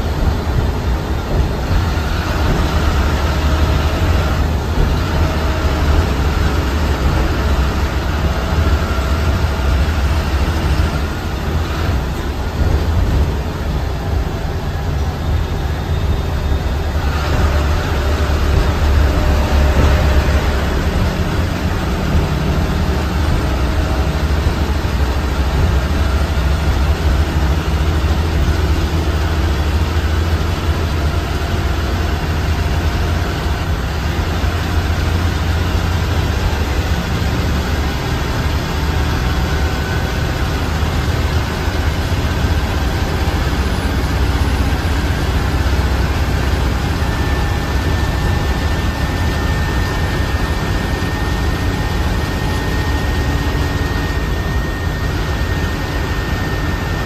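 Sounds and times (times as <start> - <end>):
bus engine rumble: 0.0 - 57.0
road noise: 0.0 - 57.0.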